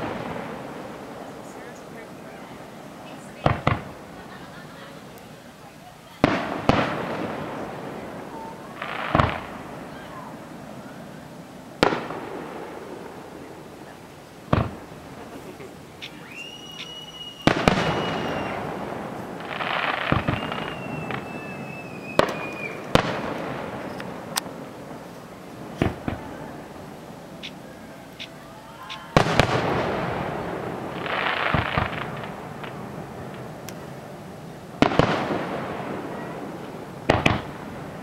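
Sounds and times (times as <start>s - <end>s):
fireworks booming: 0.0s - 38.0s
fireworks whistling: 0.0s - 38.0s.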